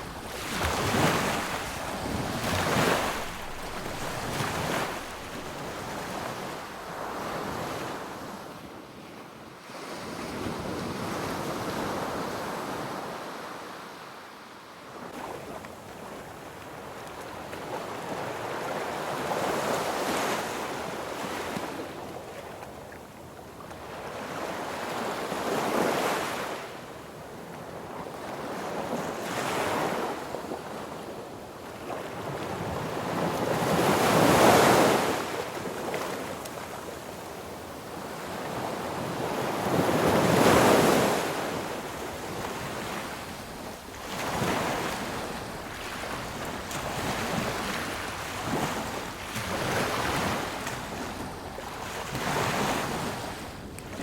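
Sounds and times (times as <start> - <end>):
sea waves breaking on a beach: 0.0 - 54.0.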